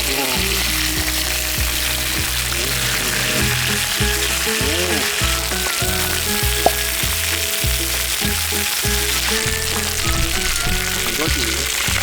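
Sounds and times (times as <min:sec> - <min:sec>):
background music with steady beat: 0:00.0 - 0:12.0
meat sizzling in a frying pan: 0:00.0 - 0:12.0.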